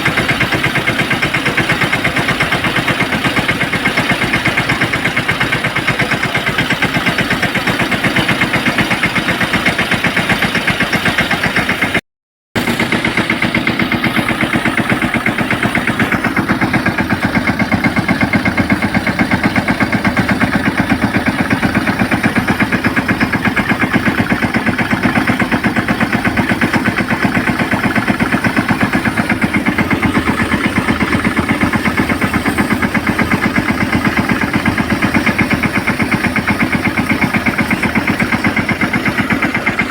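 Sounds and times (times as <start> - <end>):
spray pump engine running: 0.0 - 12.0, 12.6 - 39.9.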